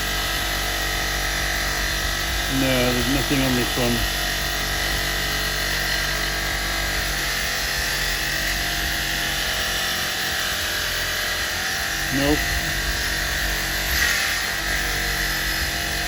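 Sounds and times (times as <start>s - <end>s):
wire brush wheel scratching metal: 0.0s - 16.0s.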